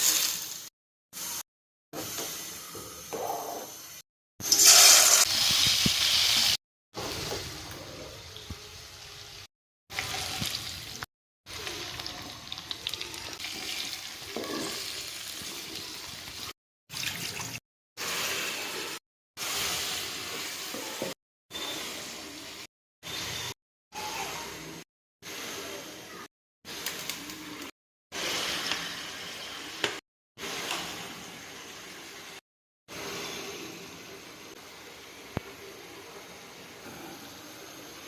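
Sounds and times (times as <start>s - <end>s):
food frying in a pan: 0.0s - 1.4s, 3.7s - 23.4s, 25.2s - 38.0s.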